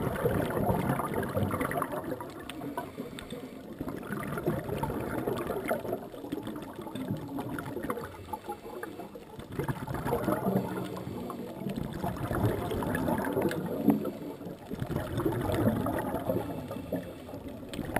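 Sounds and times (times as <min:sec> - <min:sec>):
underwater regulator bubbles: 0:00.0 - 0:17.9.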